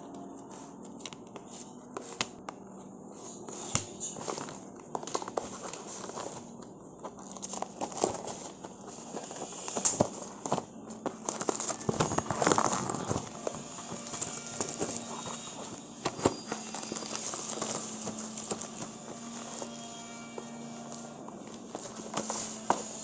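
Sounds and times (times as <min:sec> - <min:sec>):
plastic and paper crinkling: 0:03.4 - 0:23.0.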